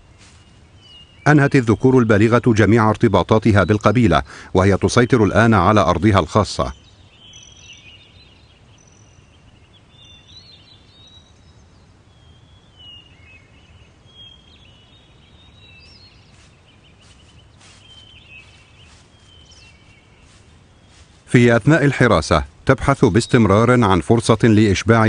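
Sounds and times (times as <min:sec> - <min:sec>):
birds chirping and whistling: 0:00.0 - 0:25.0.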